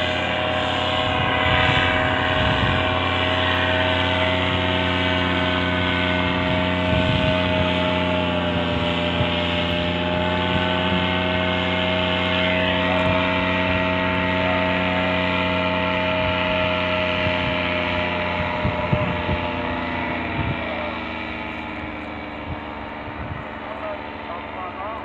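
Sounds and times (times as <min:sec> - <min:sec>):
paramotor engine drone: 0:00.0 - 0:25.0.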